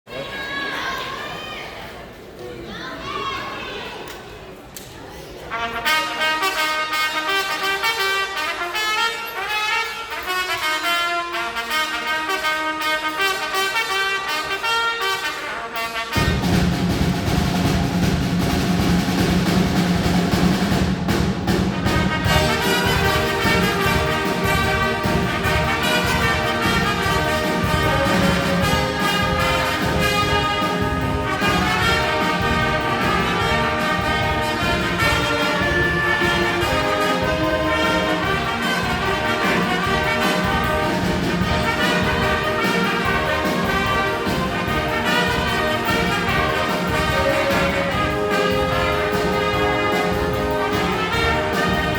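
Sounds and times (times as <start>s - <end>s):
brass and drums playing music: 5.5s - 51.9s
held horn notes: 5.5s - 51.9s.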